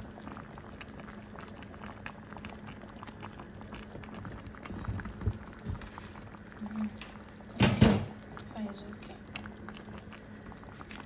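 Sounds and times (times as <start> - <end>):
soup simmering and bubbling: 0.0 - 11.0.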